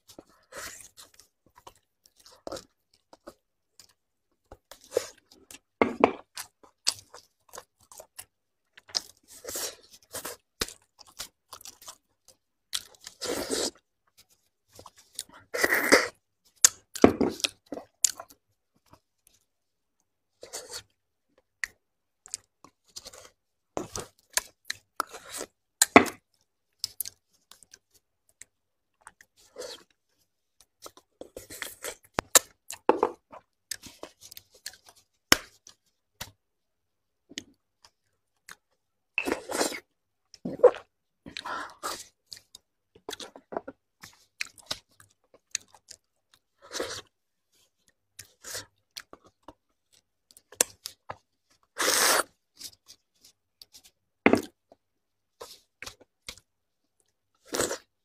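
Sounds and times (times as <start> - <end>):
wet chewing and smacking: 0.1 - 15.5, 16.4 - 36.4, 37.3 - 57.9.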